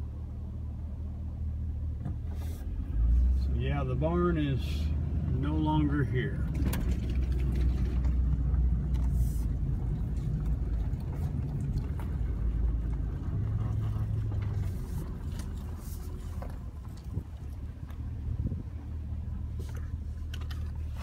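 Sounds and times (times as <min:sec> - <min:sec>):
engine and tyres rumbling: 0:00.0 - 0:21.0.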